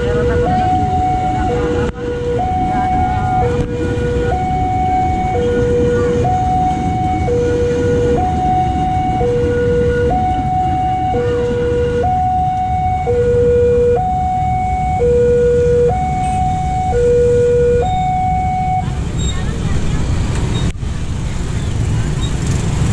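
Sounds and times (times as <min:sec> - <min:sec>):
two-tone crossing alarm: 0:00.0 - 0:19.3
steady low rumble: 0:00.0 - 0:22.9.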